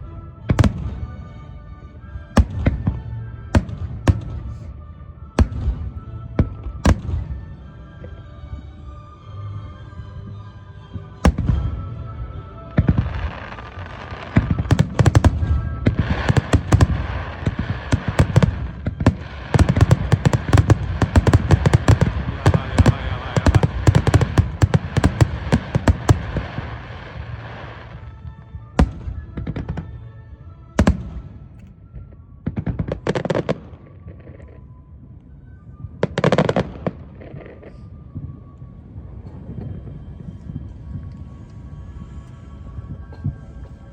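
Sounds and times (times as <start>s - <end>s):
music playing: 0.0s - 43.9s
fireworks bangs and crackling: 0.4s - 1.4s, 2.4s - 8.2s, 11.0s - 30.1s, 30.8s - 34.8s, 35.5s - 43.9s.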